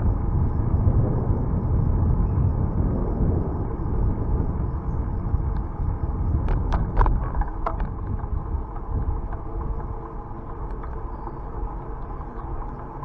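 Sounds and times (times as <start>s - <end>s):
bicycle tyre noise: 0.0s - 13.0s
wind on microphone: 0.0s - 13.0s.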